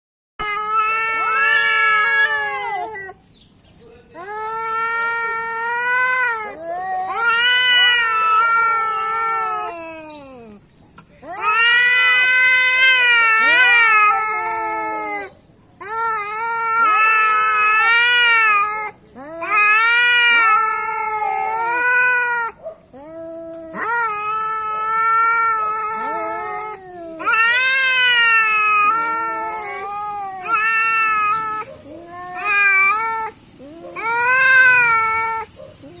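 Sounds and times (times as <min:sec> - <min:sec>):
cats yowling: 0:00.4 - 0:03.3, 0:04.1 - 0:36.0.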